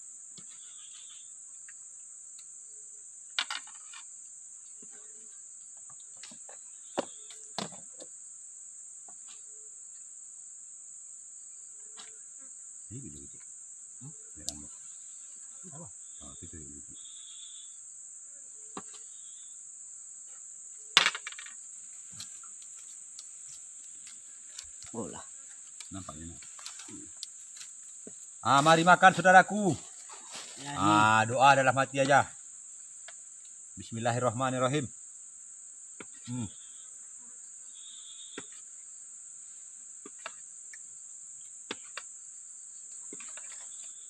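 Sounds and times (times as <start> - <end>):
insects buzzing high-pitched: 0.0 - 44.0.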